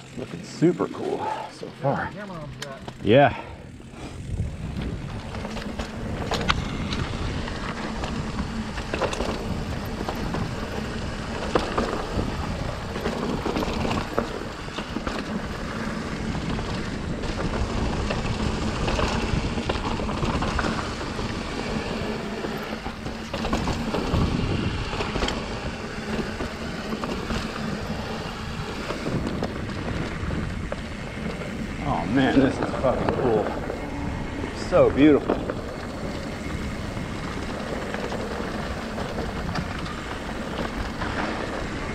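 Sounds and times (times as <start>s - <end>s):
tyre and wind noise: 0.0s - 41.9s
bike knocks and rattles: 4.2s - 41.9s.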